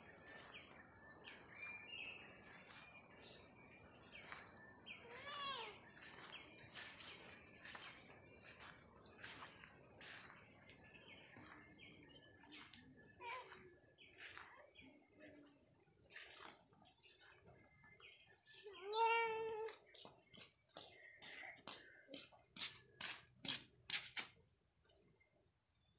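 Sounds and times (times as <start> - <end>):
insects chirring: 0.0 - 25.9.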